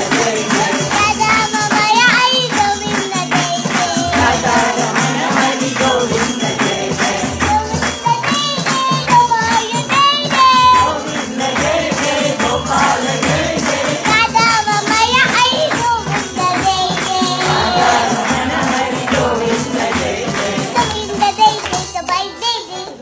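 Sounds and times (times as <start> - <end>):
child singing: 0.0 - 11.2, 13.8 - 23.0
jingling hand percussion: 0.0 - 23.0.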